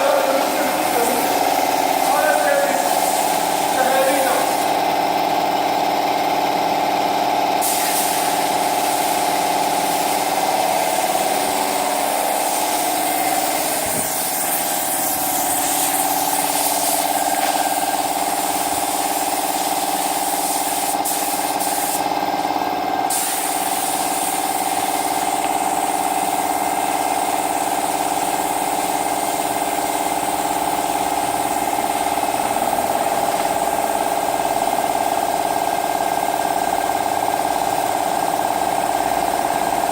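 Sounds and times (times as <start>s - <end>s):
small power tool running: 0.2s - 39.9s.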